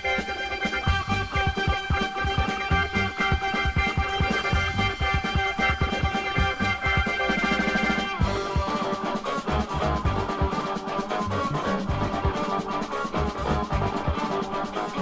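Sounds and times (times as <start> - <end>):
jazz-rock band playing: 0.0 - 15.0.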